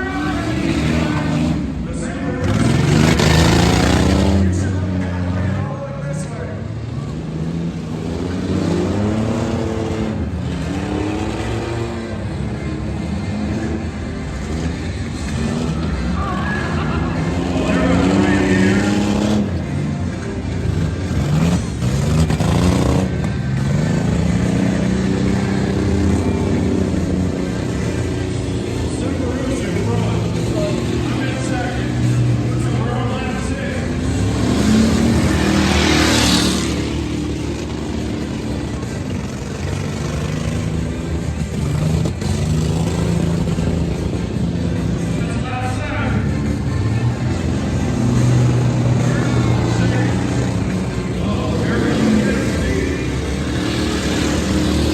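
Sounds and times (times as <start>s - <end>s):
monster truck engine revving: 0.0s - 54.9s.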